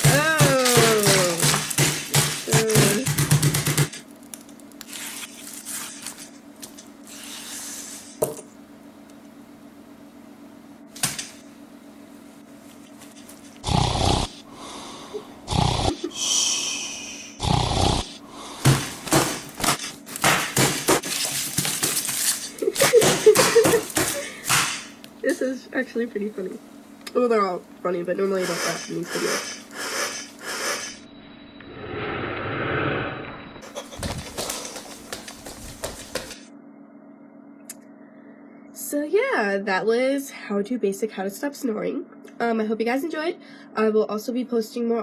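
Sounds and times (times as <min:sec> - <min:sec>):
heater fan humming: 0:00.0 - 0:45.0.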